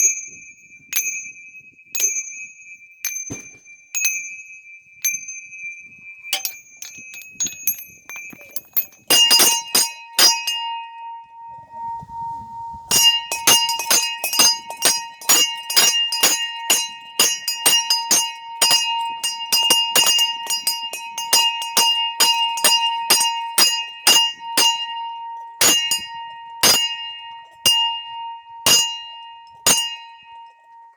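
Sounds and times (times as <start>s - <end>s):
small high-pitched bells ringing: 0.0s - 11.7s, 12.9s - 30.9s
low bell sounding: 0.0s - 30.9s.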